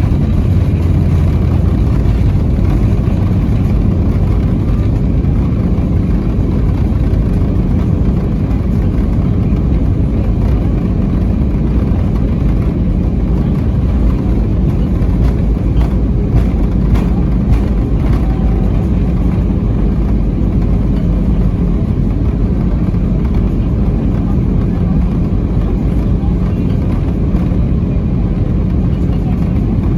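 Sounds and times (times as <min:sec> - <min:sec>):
aircraft landing rumble: 0:00.0 - 0:29.9.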